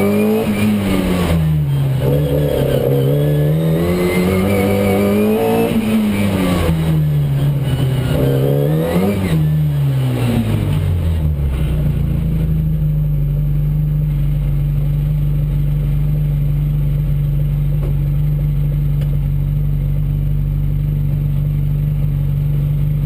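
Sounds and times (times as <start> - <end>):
car engine running at low revs: 0.0 - 23.0.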